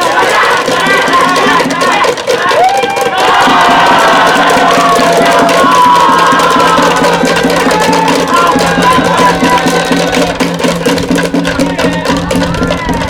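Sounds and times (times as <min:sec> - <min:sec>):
crowd noise: 0:00.0 - 0:13.0
fast steady drumbeat: 0:00.0 - 0:13.0.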